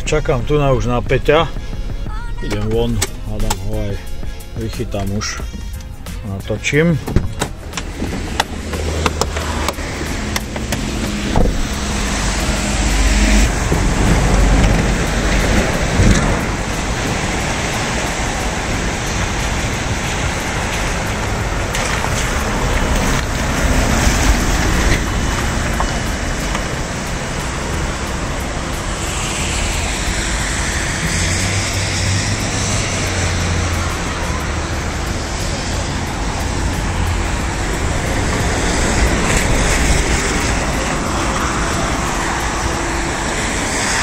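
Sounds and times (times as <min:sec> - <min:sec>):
road traffic noise: 0:00.0 - 0:44.0
vehicle passing: 0:00.0 - 0:44.0.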